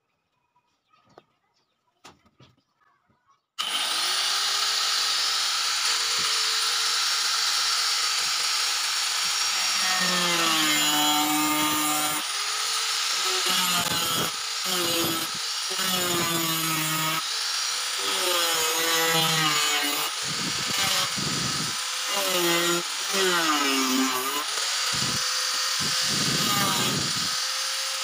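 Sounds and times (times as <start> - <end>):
angle grinder whining: 3.6 - 28.0.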